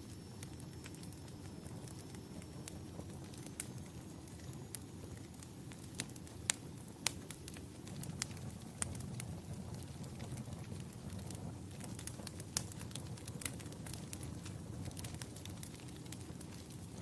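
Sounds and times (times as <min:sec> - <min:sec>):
wood fire popping and snapping: 0:00.0 - 0:17.0.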